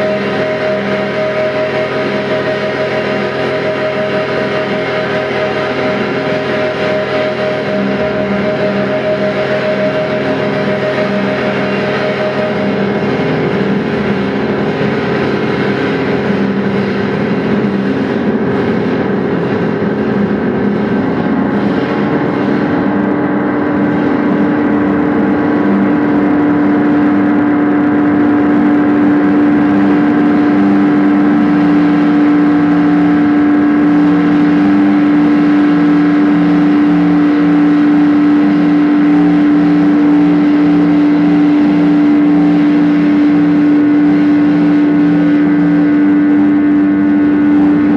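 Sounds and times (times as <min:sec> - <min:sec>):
drone music: 0:00.0 - 0:47.9
steady low tone: 0:00.0 - 0:47.9.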